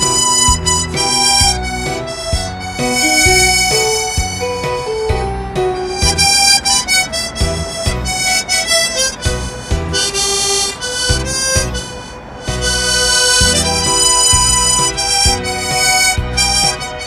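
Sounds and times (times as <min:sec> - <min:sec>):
backing music with low beat: 0:00.0 - 0:17.0
harmonica melody: 0:00.0 - 0:17.0.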